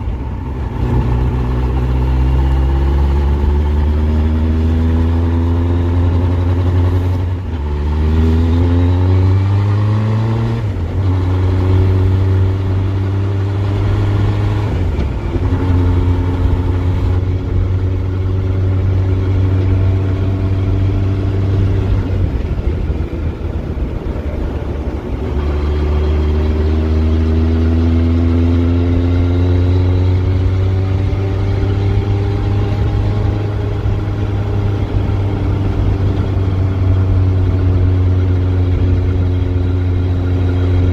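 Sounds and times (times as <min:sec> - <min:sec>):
motorcycle engine: 0:00.0 - 0:40.9
rough road noise: 0:00.0 - 0:40.9
wind noise: 0:00.0 - 0:40.9.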